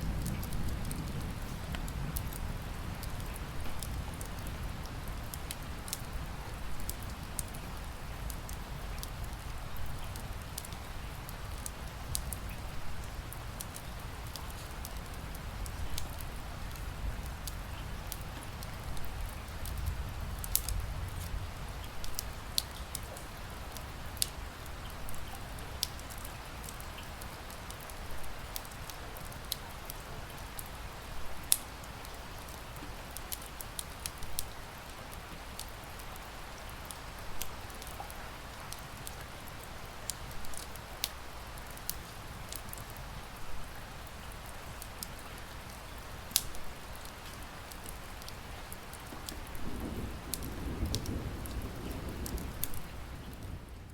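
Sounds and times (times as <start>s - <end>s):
rain hissing: 0.0s - 53.9s
wood fire crackling and popping: 0.2s - 53.9s.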